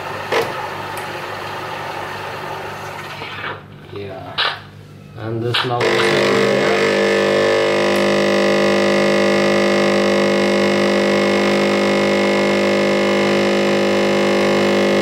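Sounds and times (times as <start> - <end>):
espresso machine pump buzzing: 0.0 - 3.5, 5.8 - 15.0.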